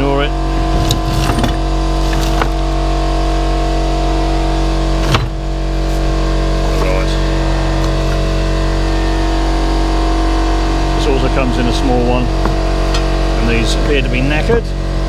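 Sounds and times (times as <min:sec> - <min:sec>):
compressor droning: 0:00.0 - 0:15.0.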